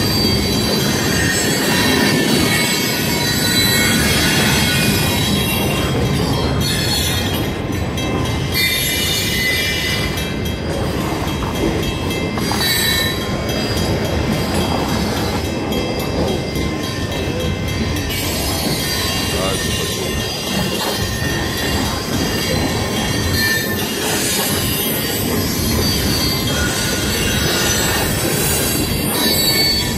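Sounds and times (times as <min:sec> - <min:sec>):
steel wheels squealing: 0:00.0 - 0:07.6, 0:08.4 - 0:29.9
train cars rumbling past: 0:00.0 - 0:29.9.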